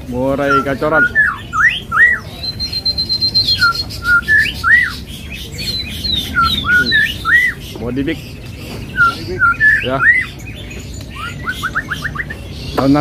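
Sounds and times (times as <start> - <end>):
bird singing whistled song: 0.2 - 13.0.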